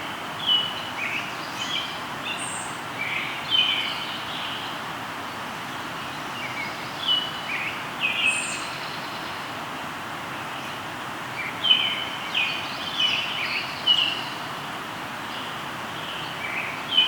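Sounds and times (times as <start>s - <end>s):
river flowing: 0.0s - 17.0s
songbirds chirping: 0.0s - 17.0s.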